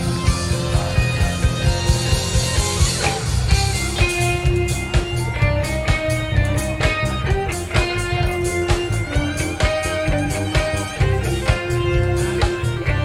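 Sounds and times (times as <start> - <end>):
bass guitar: 0.0 - 13.0
lead guitar held notes: 0.0 - 13.0
steady drum beat: 0.0 - 13.0.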